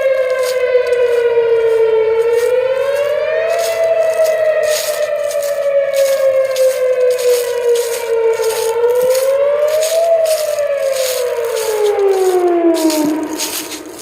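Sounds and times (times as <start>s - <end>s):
warning siren: 0.0s - 14.0s.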